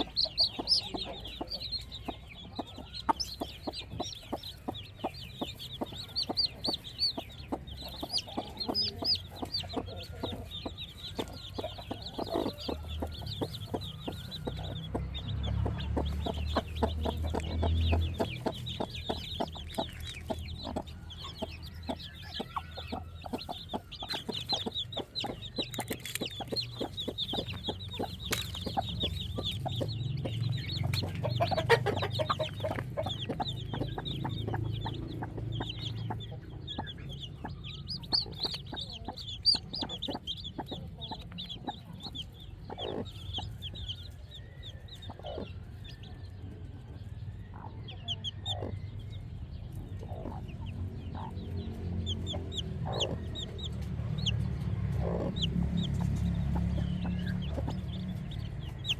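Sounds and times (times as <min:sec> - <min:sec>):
chickens clucking: 0:00.0 - 0:58.9
high-pitched peeping calls: 0:00.0 - 0:58.9.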